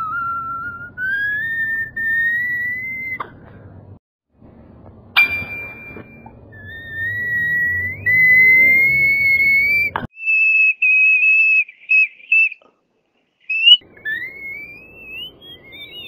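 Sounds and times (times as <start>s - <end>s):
person singing high whistle tones: 0.0s - 3.2s, 5.2s - 12.6s, 13.5s - 16.0s.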